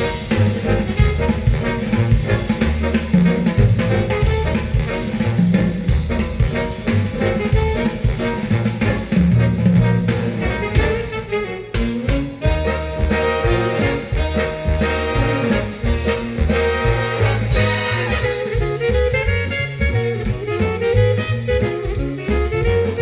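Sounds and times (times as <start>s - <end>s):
instrumental jazz: 0.0s - 23.0s.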